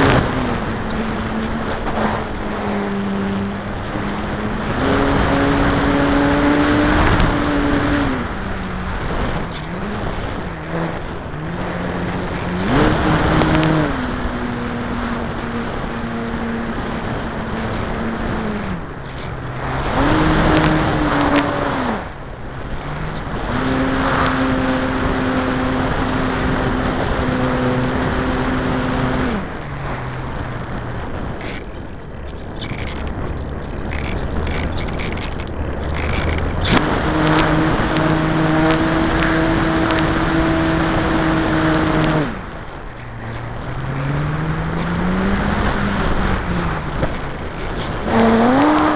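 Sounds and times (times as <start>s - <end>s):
wind rush: 0.0s - 48.9s.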